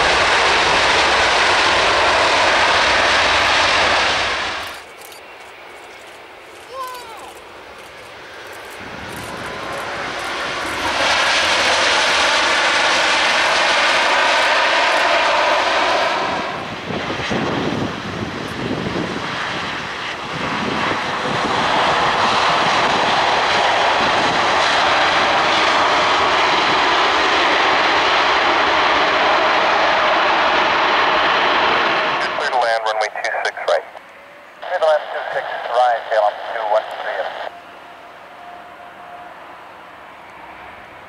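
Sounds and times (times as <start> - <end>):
faint engine whine: 0.0 - 41.0
jet engines roaring: 0.0 - 41.0.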